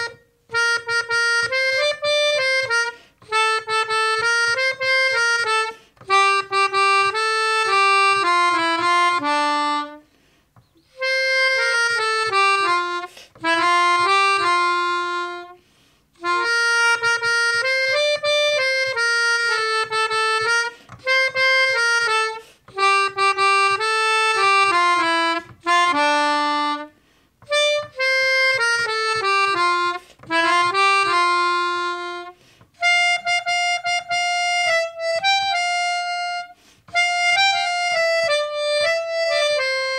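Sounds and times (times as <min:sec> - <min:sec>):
melodica melody: 0:00.0 - 0:39.9.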